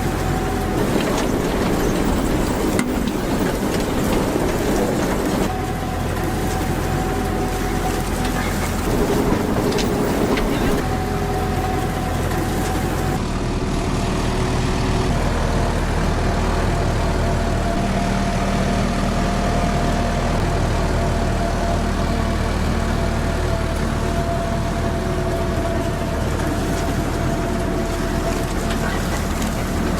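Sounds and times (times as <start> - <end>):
farm machinery engine drone: 0.0 - 29.9.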